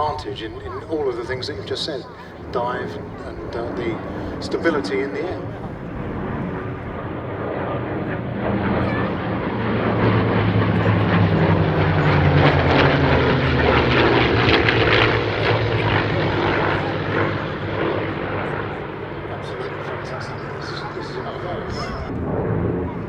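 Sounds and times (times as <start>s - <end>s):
propeller aircraft engines droning: 0.0s - 23.0s.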